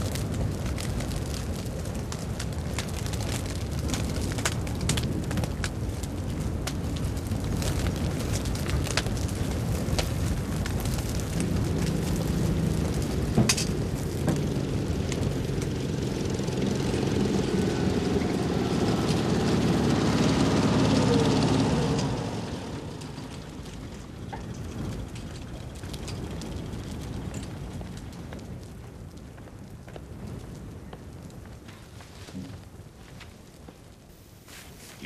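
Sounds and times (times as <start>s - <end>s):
vehicle engine drone: 0.0s - 28.1s
burning wreckage crackling: 0.0s - 35.0s.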